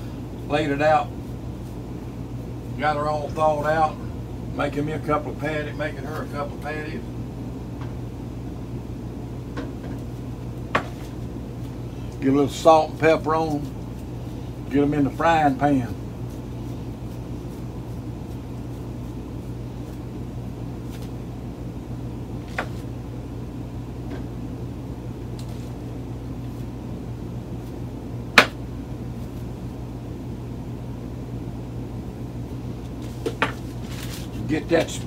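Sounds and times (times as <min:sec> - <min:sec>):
fan humming: 0:00.0 - 0:35.0.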